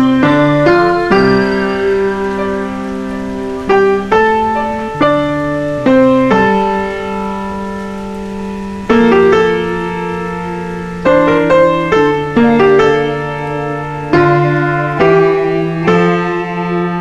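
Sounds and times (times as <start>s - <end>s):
slow solo piano piece: 0.0s - 17.0s.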